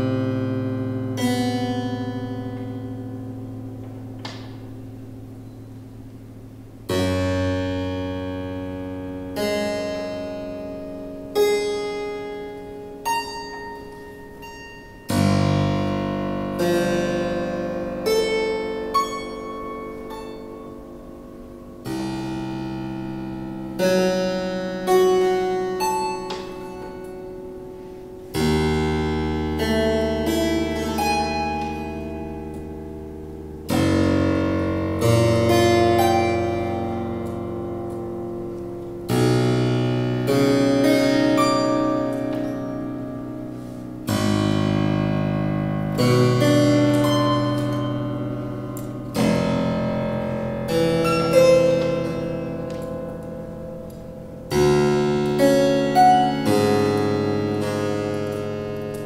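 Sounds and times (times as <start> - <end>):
harpsichord strings plucked: 0.0 - 59.0.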